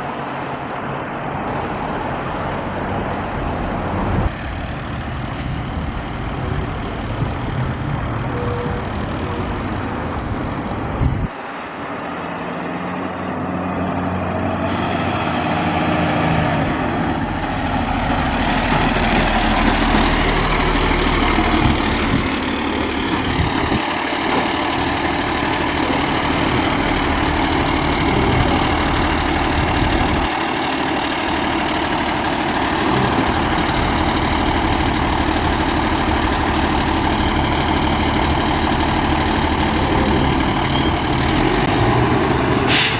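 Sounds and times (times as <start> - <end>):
fire truck engine running: 0.0 - 42.9
road noise: 0.0 - 42.9.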